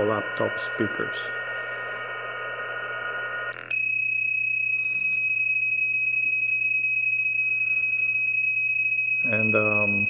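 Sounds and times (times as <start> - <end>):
steady high-pitched tone: 0.0 - 10.0.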